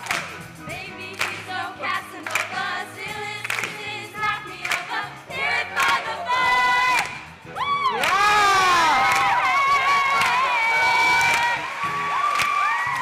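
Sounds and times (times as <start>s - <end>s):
band accompaniment with a beat: 0.0s - 10.5s
young voices singing together: 0.7s - 11.7s.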